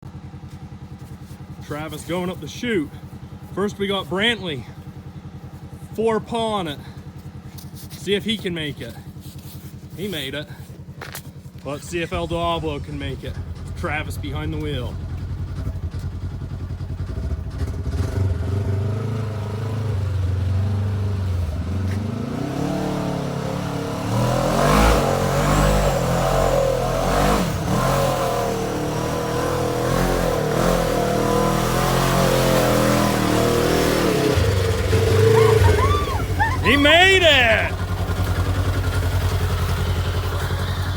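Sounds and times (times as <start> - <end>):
off-road engine revving: 1.0 - 40.9.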